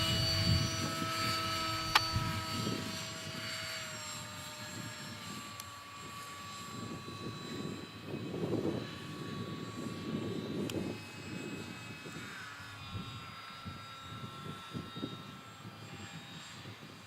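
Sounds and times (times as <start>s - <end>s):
model aeroplane motor whining: 0.0s - 17.0s.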